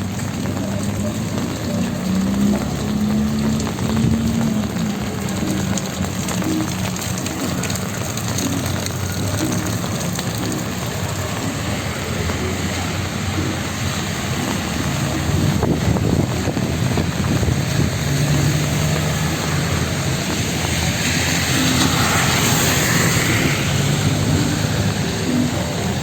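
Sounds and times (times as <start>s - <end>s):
rain falling: 0.0s - 26.0s
tyres hissing on wet road: 0.0s - 26.0s
vehicle engines running: 0.0s - 26.0s.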